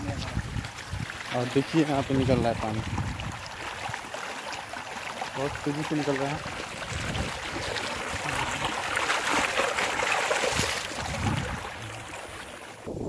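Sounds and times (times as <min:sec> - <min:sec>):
water rushing through channel: 0:00.0 - 0:12.9.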